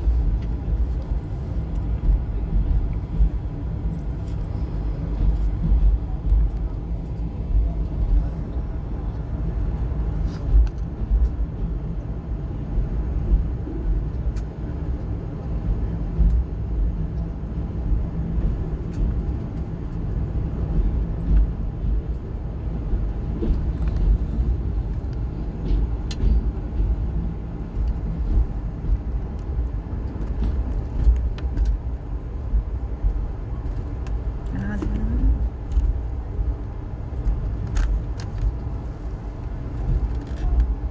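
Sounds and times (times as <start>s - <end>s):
train wheels rumbling on track: 0.0s - 40.9s.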